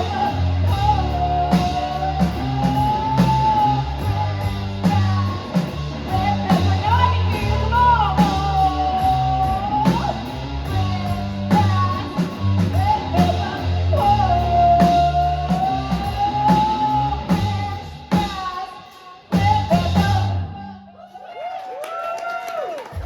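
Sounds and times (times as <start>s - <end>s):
bass notes: 0.0s - 18.5s, 19.3s - 20.8s
steady drum beat: 0.0s - 20.5s
guitar: 0.0s - 21.0s.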